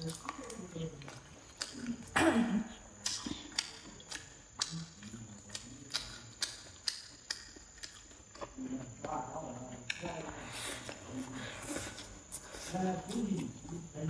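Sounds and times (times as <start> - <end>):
person chewing with wet smacking: 0.0 - 14.0.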